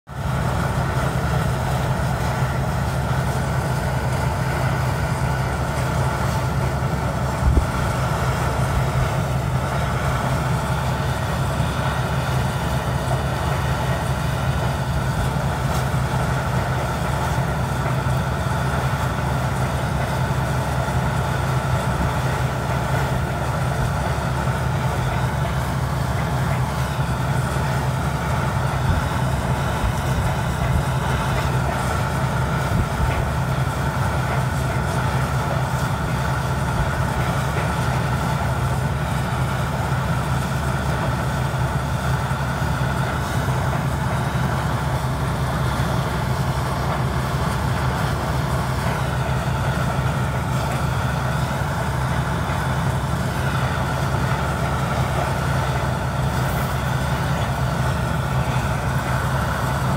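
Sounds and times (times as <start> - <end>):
drilling rig engine drone: 0.1 - 59.9.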